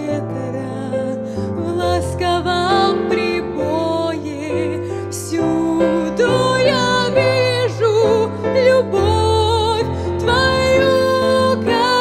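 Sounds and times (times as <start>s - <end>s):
digital piano: 0.0s - 12.0s
woman singing with vibrato: 0.0s - 12.0s.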